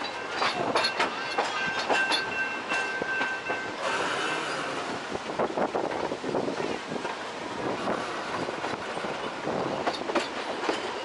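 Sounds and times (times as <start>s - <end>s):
carriages clicking over track: 0.0s - 11.0s
steam train running: 0.0s - 11.0s.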